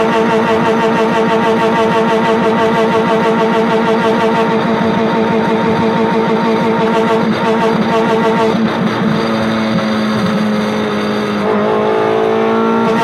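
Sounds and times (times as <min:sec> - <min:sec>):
car engine at rev limiter: 0:00.0 - 0:13.0.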